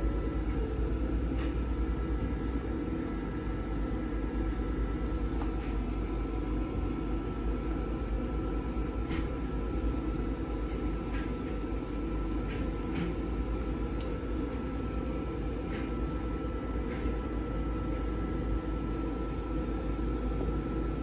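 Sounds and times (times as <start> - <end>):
faint constant whine: 0.0 - 21.0
train coach rumble and hum: 0.0 - 21.0.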